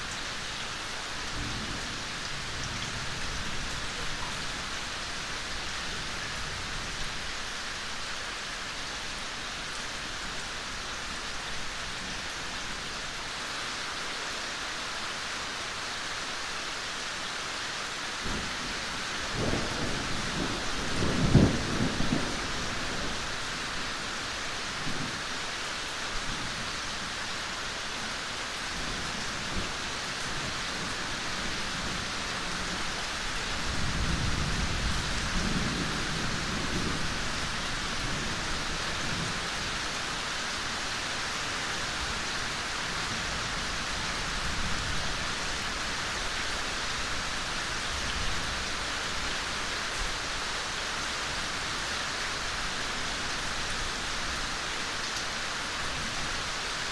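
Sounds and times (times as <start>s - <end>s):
steady rain in a forest: 0.0s - 56.9s.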